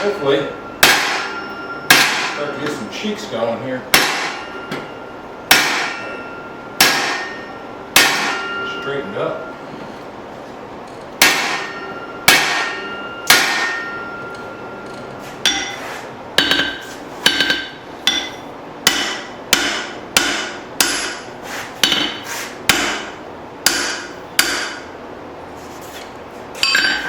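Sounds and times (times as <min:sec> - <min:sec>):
hammer striking steel on anvil: 0:00.0 - 0:02.8, 0:03.9 - 0:09.6, 0:11.2 - 0:24.9, 0:26.6 - 0:27.0.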